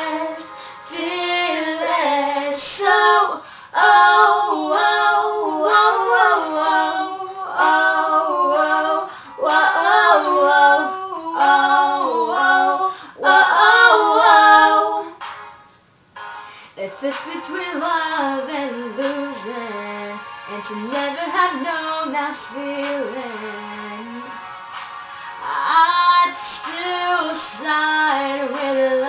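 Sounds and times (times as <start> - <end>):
girls singing together: 0.0 - 15.2, 16.8 - 24.4, 25.4 - 29.0.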